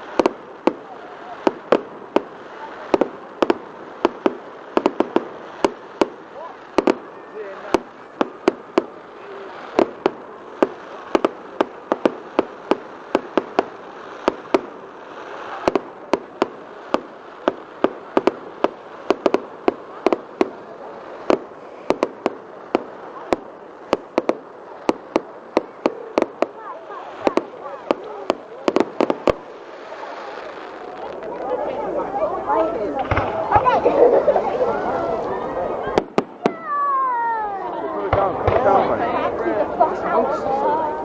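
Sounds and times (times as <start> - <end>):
background murmur: 0.0 - 41.0
fireworks bangs and cracks: 0.0 - 41.0.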